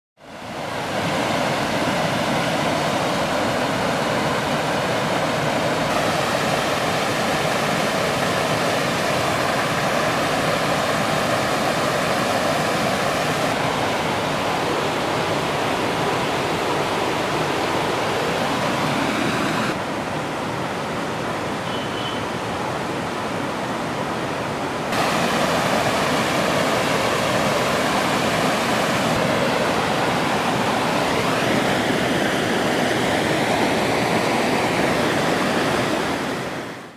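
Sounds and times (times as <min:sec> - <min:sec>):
stream rushing over boulders: 0:00.2 - 0:36.9.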